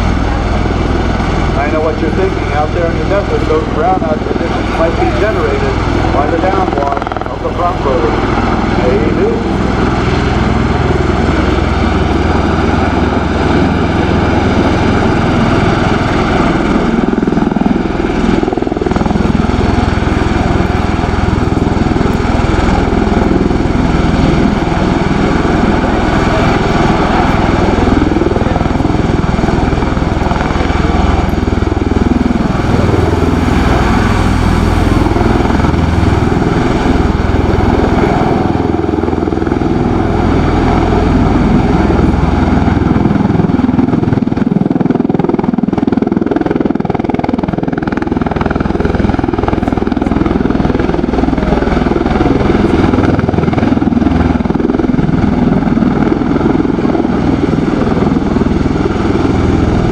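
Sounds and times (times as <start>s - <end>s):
tiltrotor aircraft hovering thrum: 0.0s - 59.9s.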